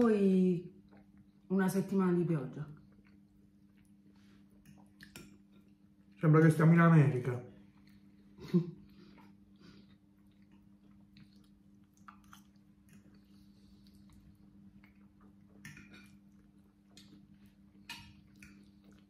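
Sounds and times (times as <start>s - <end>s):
steady low hum: 0.0s - 19.0s
soft chewing: 0.7s - 1.5s, 2.7s - 6.2s, 7.5s - 19.0s.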